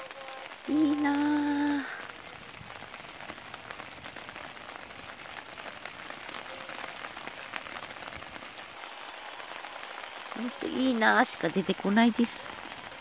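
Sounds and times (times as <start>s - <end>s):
rain falling hard: 0.0s - 13.0s.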